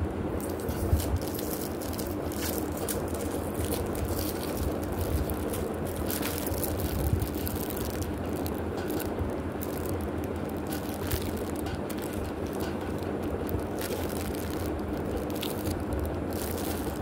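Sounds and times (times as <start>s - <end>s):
low background hum: 0.0s - 17.0s
plastic packaging crinkling: 0.4s - 17.0s.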